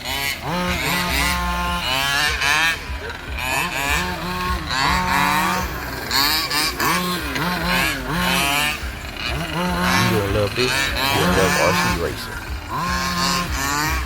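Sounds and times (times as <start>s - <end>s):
radio-controlled car motors whining: 0.0s - 14.0s.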